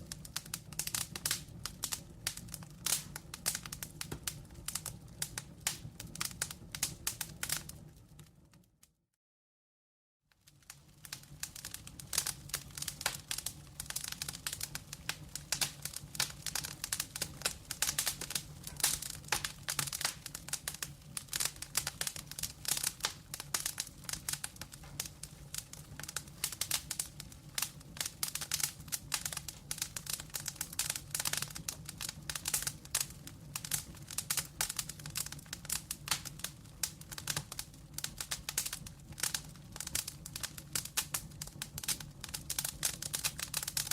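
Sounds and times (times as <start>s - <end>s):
logs crackling and popping: 0.0s - 8.7s, 10.4s - 43.9s.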